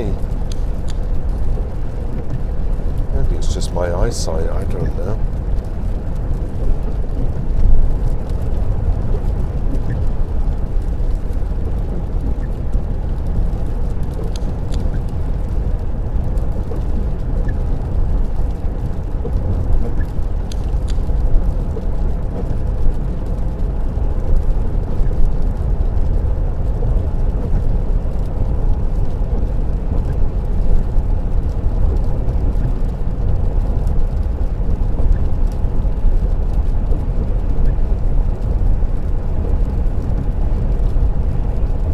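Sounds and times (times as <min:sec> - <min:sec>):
car tyres and engine rumbling: 0:00.0 - 0:41.9.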